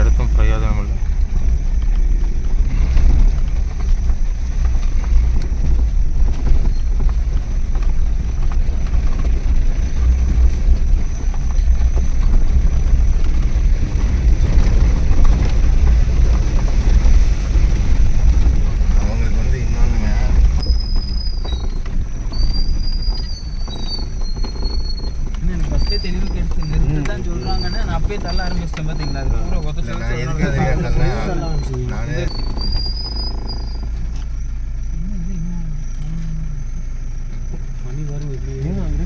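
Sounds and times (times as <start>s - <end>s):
wind noise on microphone: 0.0s - 29.8s, 31.5s - 34.5s
vehicle road and engine rumble: 0.0s - 39.0s.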